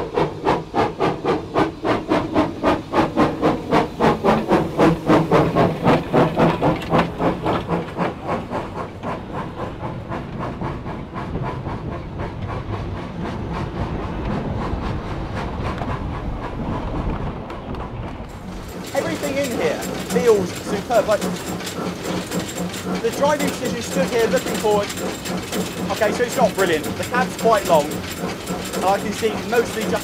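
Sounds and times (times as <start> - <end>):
steam locomotive exhaust chuffing: 0.0 - 30.0
wheels rumbling on rails: 0.0 - 30.0.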